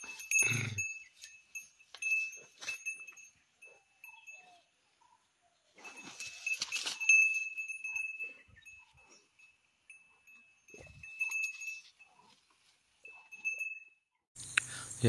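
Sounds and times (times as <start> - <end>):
small bell ringing: 0.0 - 5.2, 5.8 - 12.4, 13.0 - 14.1.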